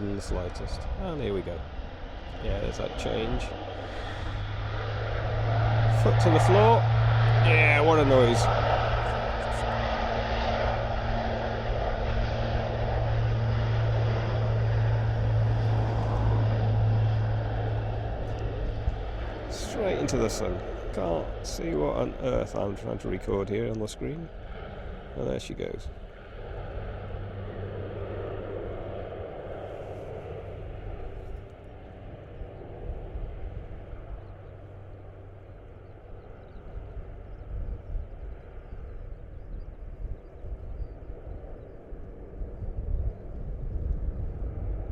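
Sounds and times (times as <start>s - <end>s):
turboprop aircraft taking off: 0.0s - 44.9s.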